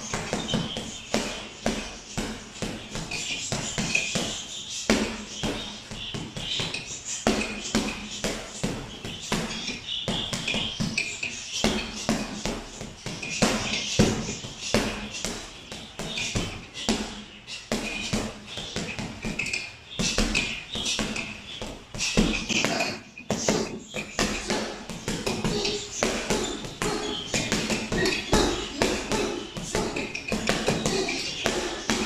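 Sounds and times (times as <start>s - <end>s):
punches thudding on heavy bag: 0.0s - 32.0s.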